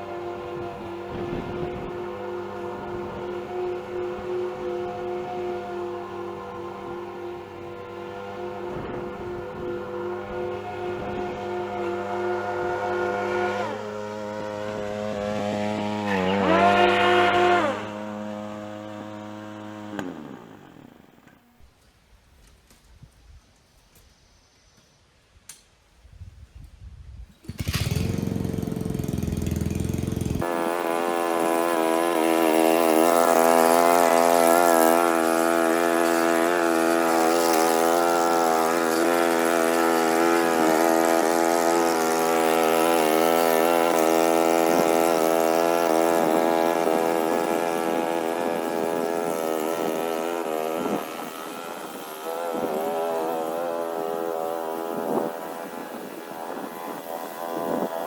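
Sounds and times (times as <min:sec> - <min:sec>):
lawn mower engine starting: 0:00.0 - 0:21.8, 0:27.3 - 0:58.0.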